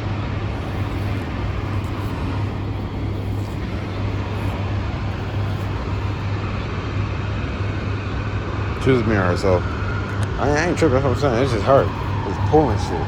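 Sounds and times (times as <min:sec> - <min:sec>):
steady hiss: 0:00.4 - 0:06.9, 0:08.8 - 0:13.0.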